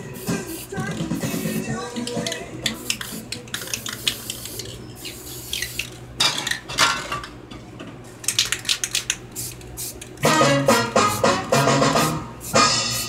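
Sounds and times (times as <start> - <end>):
spray can hissing: 0.1 - 6.0, 8.4 - 13.0.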